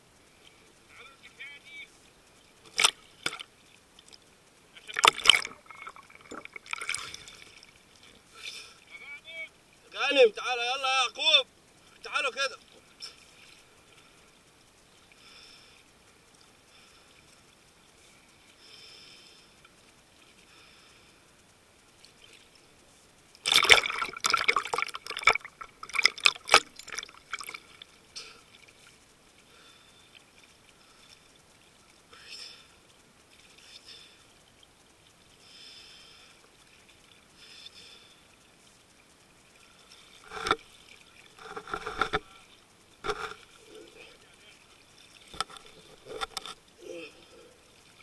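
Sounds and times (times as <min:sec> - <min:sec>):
sea water splashing: 0:01.6 - 0:09.2, 0:11.2 - 0:48.0.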